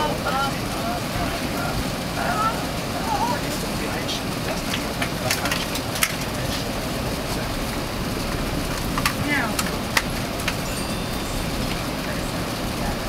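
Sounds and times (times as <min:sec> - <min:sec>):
aircraft cabin noise taxiing: 0:00.0 - 0:13.0
faint passenger voices: 0:00.0 - 0:13.0.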